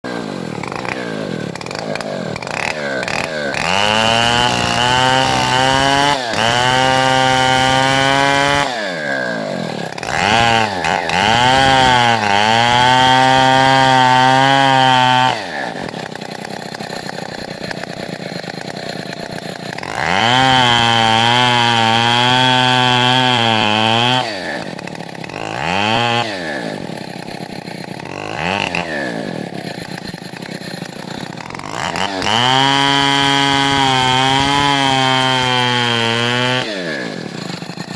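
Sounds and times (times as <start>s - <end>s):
chainsaw idling and revving: 0.0s - 37.9s.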